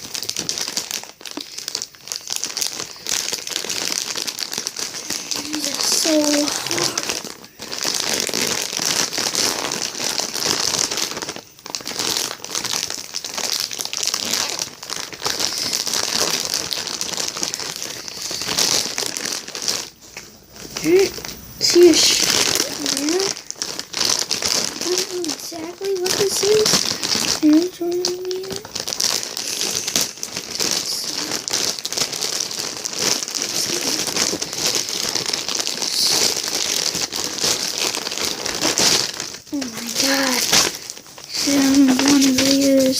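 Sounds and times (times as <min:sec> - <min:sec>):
packaging crinkling: 0:00.0 - 0:42.9.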